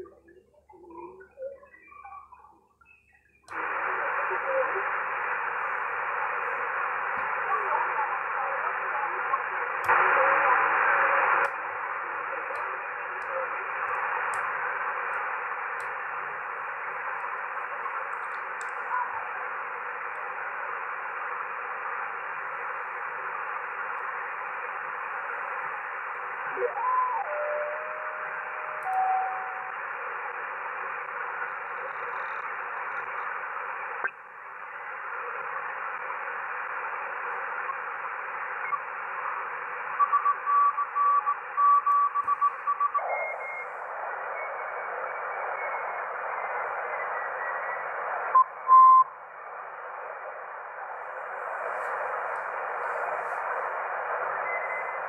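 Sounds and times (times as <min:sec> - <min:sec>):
radio static hiss: 0:03.5 - 0:55.0.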